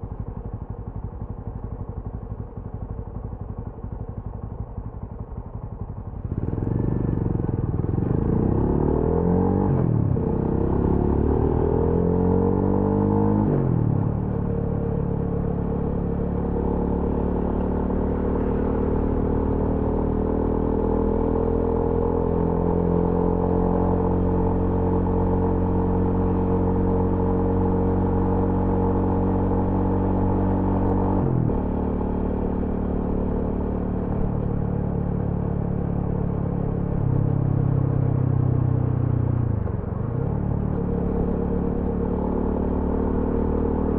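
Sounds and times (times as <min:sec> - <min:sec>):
motorcycle engine shifting gears: 0:05.9 - 0:43.9.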